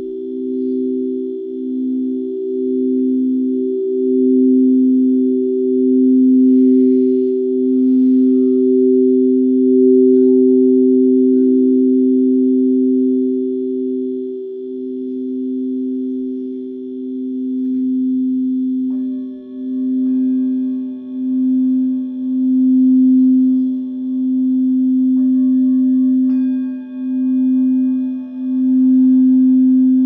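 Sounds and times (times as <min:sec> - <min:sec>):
higher-pitched bowl struck: 0:00.0 - 0:30.0
low singing bowls ringing: 0:00.0 - 0:30.0.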